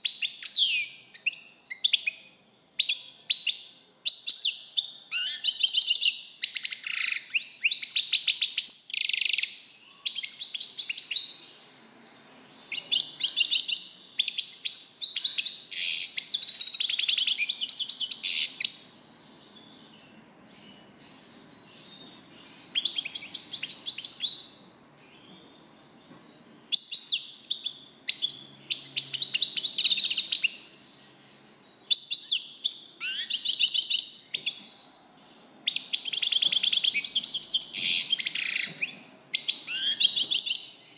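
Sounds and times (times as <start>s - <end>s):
finch singing trills: 0.0s - 40.9s.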